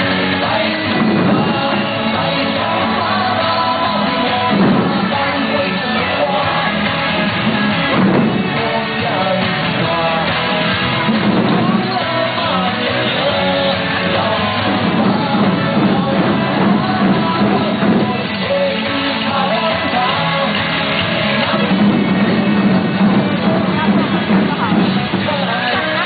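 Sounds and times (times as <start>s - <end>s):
loud music with singing: 0.0s - 26.0s
taiko drums beaten with sticks: 0.8s - 13.2s, 13.8s - 26.0s.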